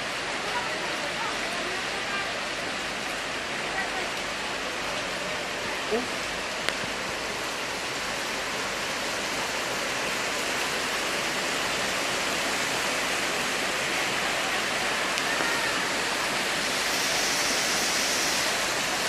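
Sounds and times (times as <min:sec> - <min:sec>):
torrential rain: 0:00.0 - 0:19.0.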